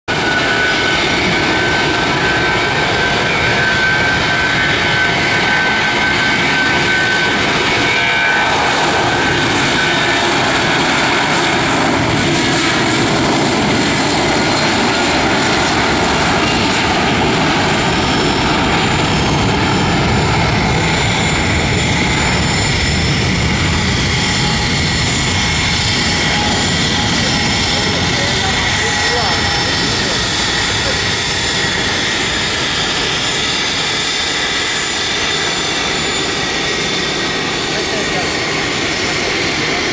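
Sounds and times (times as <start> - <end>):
high whine: 0.1 - 39.9
jet engines running: 0.1 - 39.9.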